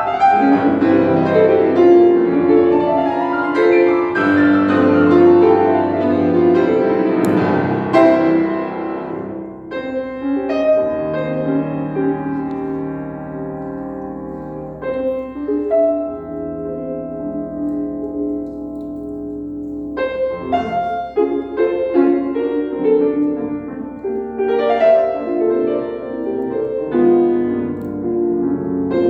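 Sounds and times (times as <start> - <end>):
solo piano music: 0.0 - 29.0.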